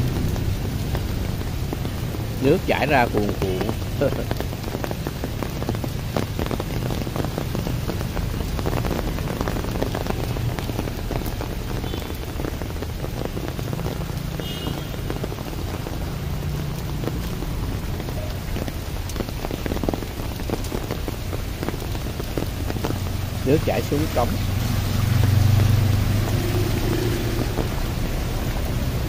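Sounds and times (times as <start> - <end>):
steady rain: 0.0 - 29.0
water gushing into storm drain: 0.0 - 29.0.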